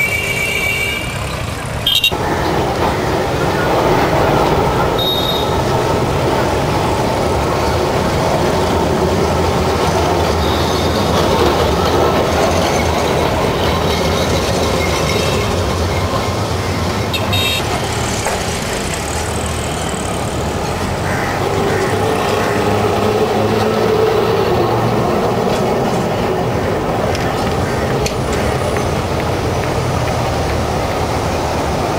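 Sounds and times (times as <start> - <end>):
tram rumbling on rails: 0.0 - 31.9.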